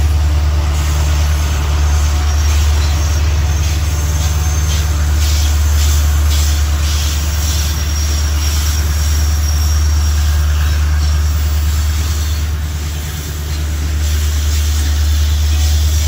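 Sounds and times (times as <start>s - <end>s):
freight train low rumble: 0.0s - 16.0s
wheels clacking over rail joints: 0.0s - 16.0s.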